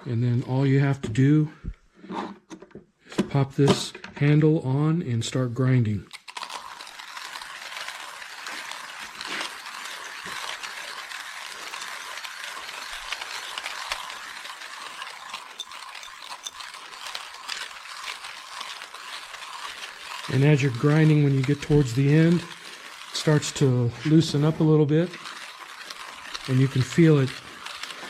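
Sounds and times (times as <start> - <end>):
manual coffee grinder crushing beans: 0.0 - 28.0.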